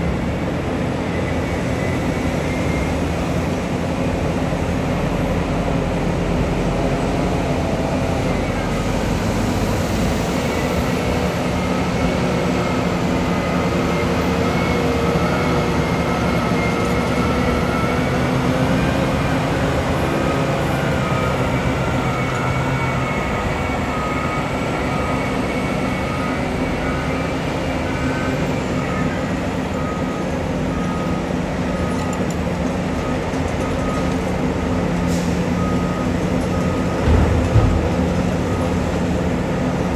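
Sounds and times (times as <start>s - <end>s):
heavy machinery running: 0.0s - 39.9s
machinery whine: 0.0s - 39.9s
reversing alarm beeping: 4.8s - 39.9s.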